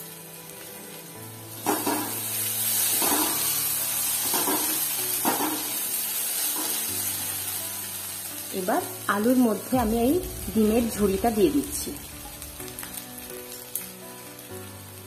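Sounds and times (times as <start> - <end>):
potato strips sizzling in oil: 0.0 - 15.0.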